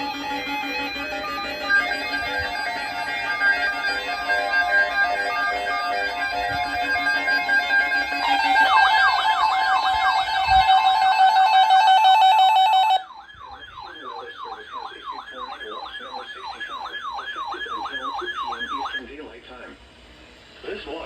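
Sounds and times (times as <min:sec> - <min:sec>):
electronic siren yelping: 0:00.0 - 0:19.0.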